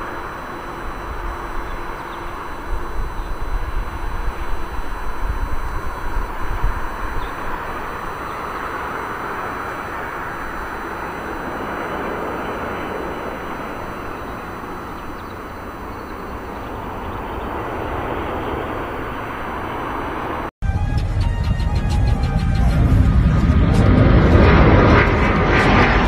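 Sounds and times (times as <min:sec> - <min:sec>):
airliner jet engines rushing: 0:00.0 - 0:26.0.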